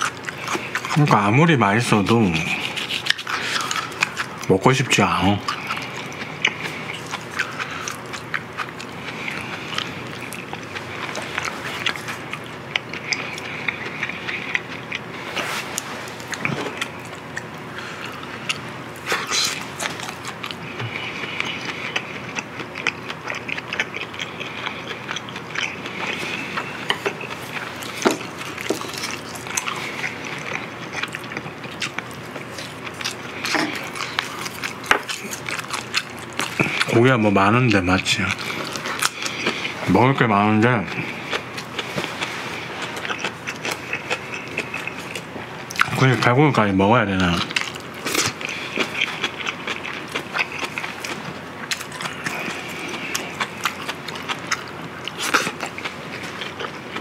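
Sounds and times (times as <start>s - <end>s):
person chewing food: 0.0s - 46.6s, 47.2s - 57.0s.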